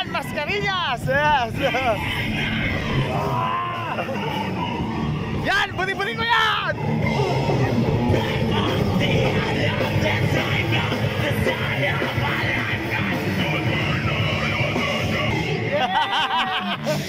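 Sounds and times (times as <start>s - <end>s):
rock band playing: 1.7s - 15.6s.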